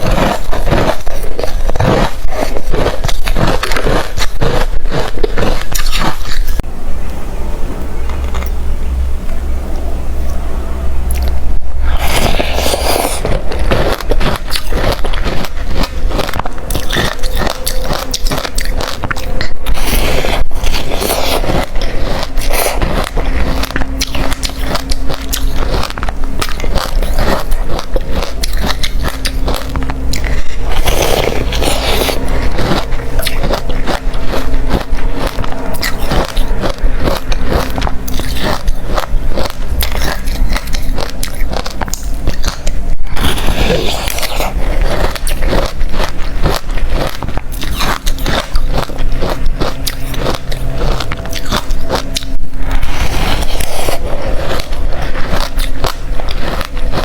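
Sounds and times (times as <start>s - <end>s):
chewing crunchy ice: 0.0s - 6.7s, 11.0s - 57.0s.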